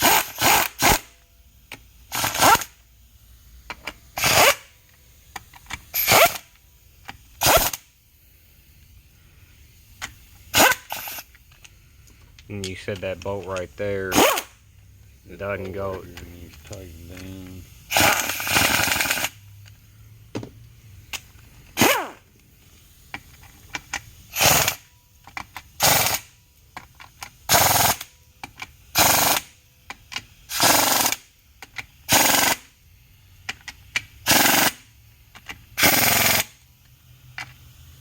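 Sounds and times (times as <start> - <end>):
ratchet wrench clicking: 0.0 - 2.8, 3.6 - 8.0, 10.0 - 14.6, 15.6 - 22.4, 23.1 - 32.8, 33.4 - 37.7.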